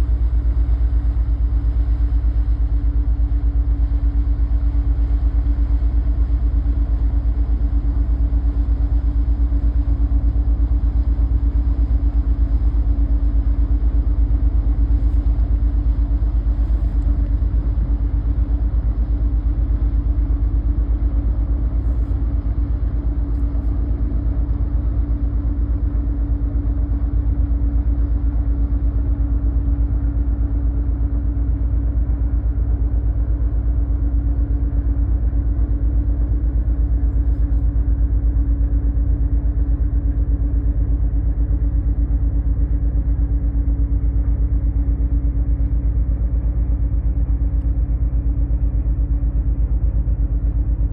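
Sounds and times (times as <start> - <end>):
constant hum: 0.0 - 50.9.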